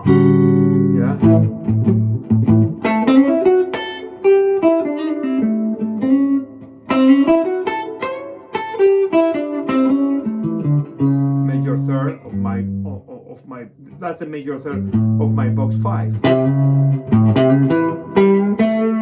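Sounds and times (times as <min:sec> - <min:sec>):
guitar blues lick: 0:00.0 - 0:19.0.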